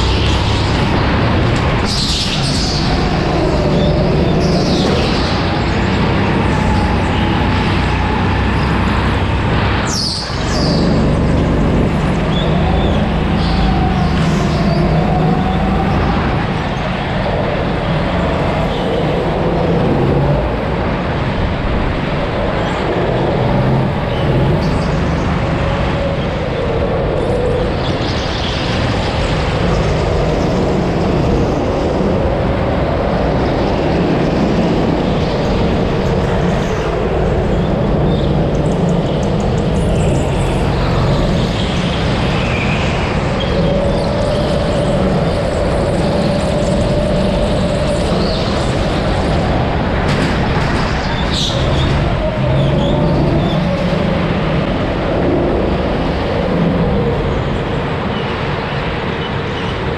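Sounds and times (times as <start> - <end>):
go-kart engine racing: 0.0 - 59.9.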